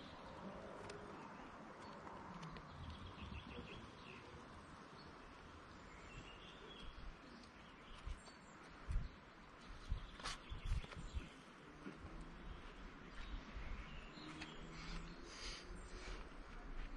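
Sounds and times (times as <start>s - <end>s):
faint woodland ambience: 0.0s - 16.9s.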